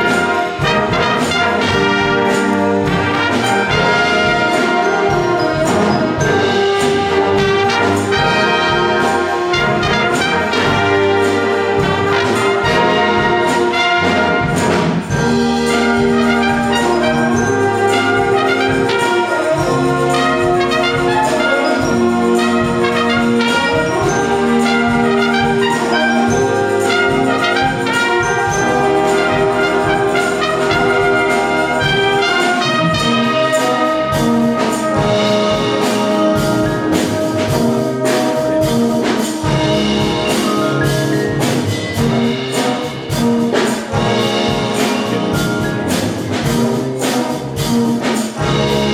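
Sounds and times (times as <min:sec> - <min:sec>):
brass band playing: 0:00.0 - 0:48.9.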